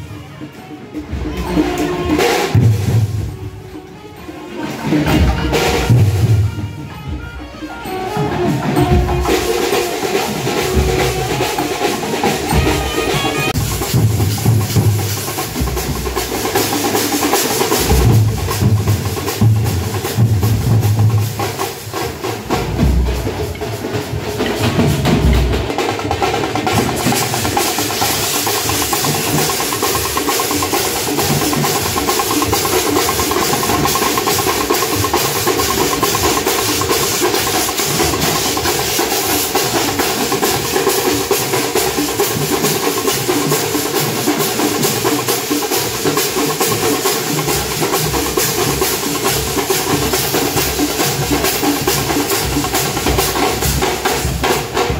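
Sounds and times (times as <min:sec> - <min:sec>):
frame drums playing fast rhythm: 0:00.0 - 0:54.9.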